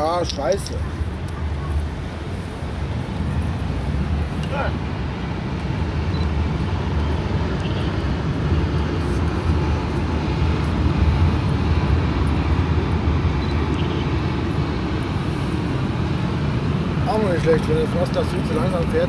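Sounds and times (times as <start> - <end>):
train rumbling over bridge: 0.0 - 19.0.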